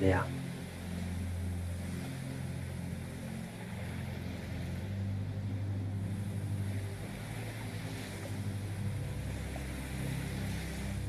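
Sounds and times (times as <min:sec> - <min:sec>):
low droning music: 0:00.0 - 0:11.0
soft hiss: 0:00.0 - 0:11.0.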